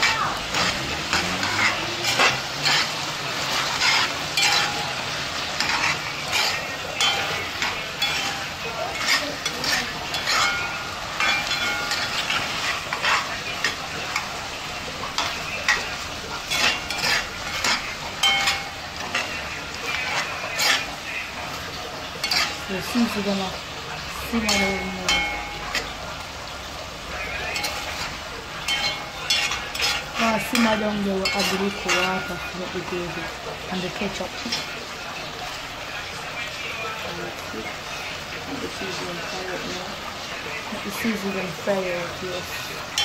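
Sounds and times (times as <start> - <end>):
metal spoon scraping a pot: 0.0 - 35.9
chicken sizzling in a pot: 0.0 - 43.0.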